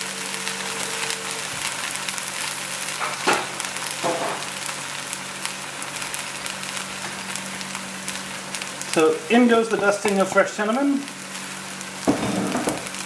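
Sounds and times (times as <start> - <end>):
berries sizzling in hot fat: 0.0 - 13.0.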